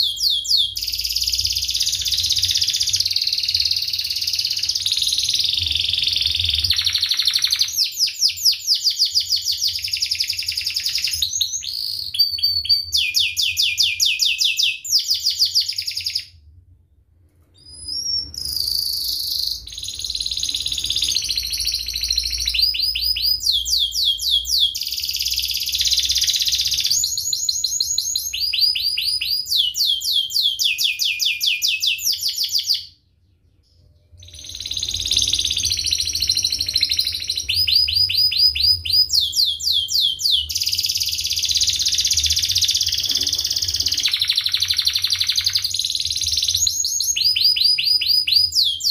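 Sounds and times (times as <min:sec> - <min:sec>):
canary singing trills: 0:00.0 - 0:16.4, 0:17.6 - 0:48.9.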